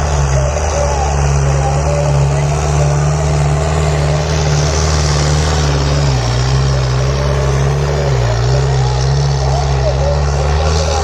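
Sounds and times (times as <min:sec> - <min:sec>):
tractor engine under heavy load: 0:00.0 - 0:11.0.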